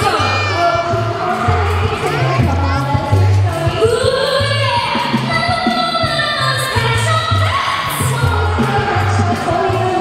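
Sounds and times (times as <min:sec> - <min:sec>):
pop song with singing: 0:00.0 - 0:10.0.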